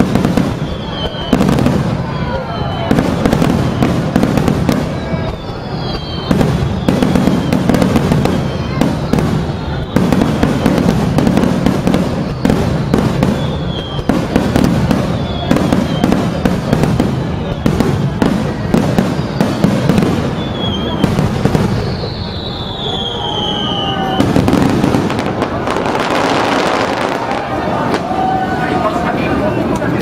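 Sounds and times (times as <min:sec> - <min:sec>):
fireworks bangs: 0:00.0 - 0:30.0
fireworks whistling: 0:00.0 - 0:30.0.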